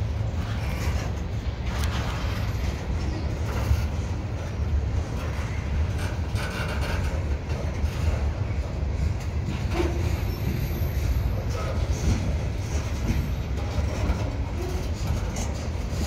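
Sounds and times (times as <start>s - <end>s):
freight train wheels rumbling on rails: 0.0s - 16.0s
train clicks and clanks: 0.0s - 16.0s.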